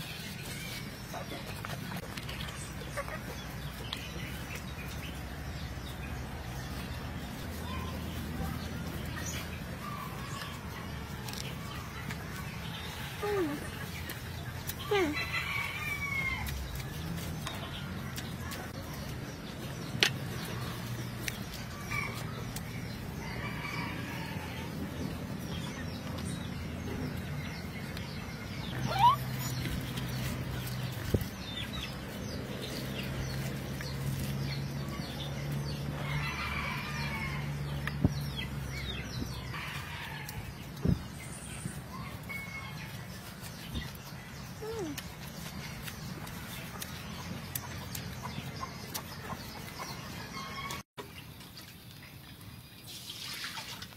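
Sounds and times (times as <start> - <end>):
chickens clucking: 0.2 - 36.3, 41.9 - 52.3.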